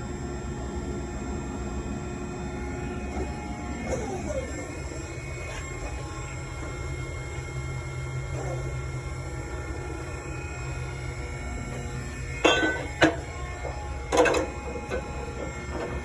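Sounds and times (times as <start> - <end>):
dark droning music: 0.0 - 16.0.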